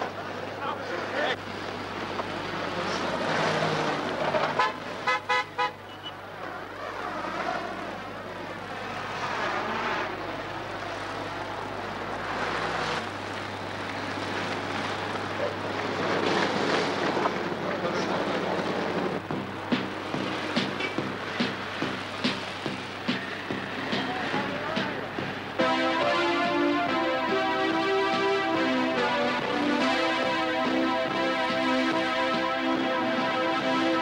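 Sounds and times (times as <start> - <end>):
vehicle engines running: 0.0 - 34.0.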